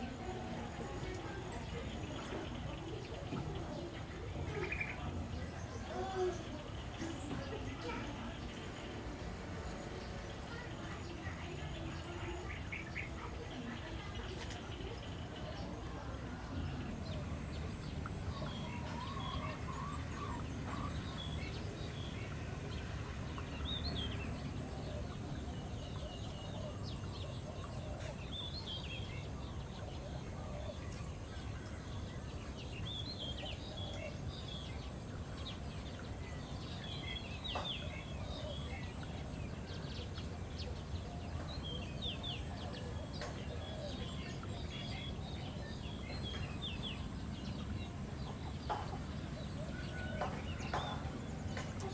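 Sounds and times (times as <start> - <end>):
steady background noise: 0.0 - 51.9.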